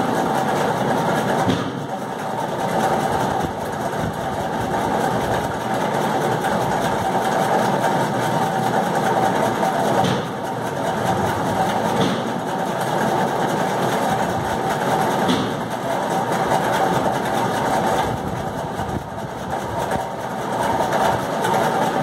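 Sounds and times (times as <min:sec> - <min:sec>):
mechanical running noise: 0:00.0 - 0:22.0.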